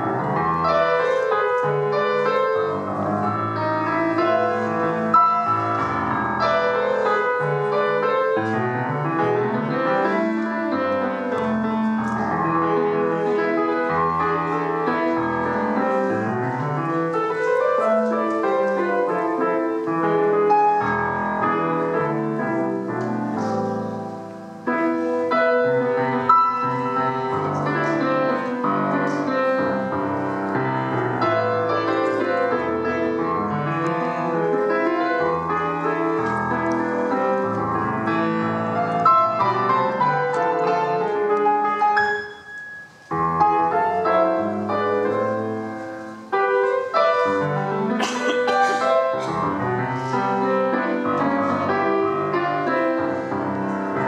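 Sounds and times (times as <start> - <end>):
solo grand piano folk dance: 0.0 - 54.0.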